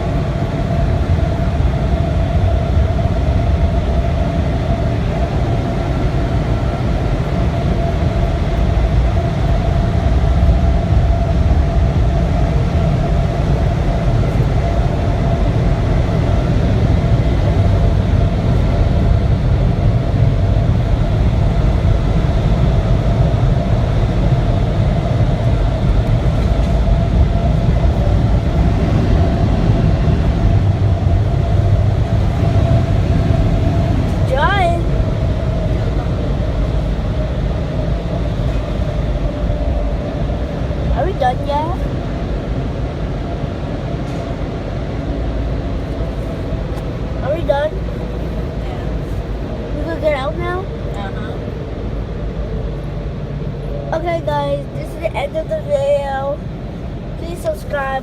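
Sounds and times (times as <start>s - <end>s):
blower whine: 0.0s - 58.0s
low rumble: 0.0s - 58.0s.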